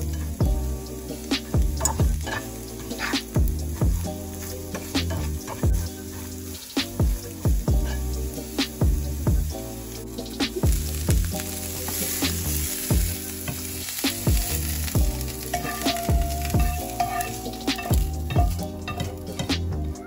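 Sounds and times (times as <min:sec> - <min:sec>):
cabbage sizzling in a frying pan: 0:00.0 - 0:19.8
spatula scraping a pan: 0:00.0 - 0:19.8
jazz-funk music: 0:00.0 - 0:20.0.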